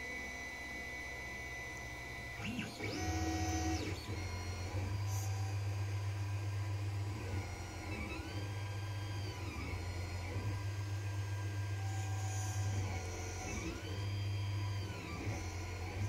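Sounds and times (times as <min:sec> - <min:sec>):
stepper motors whining: 0:01.9 - 0:16.0.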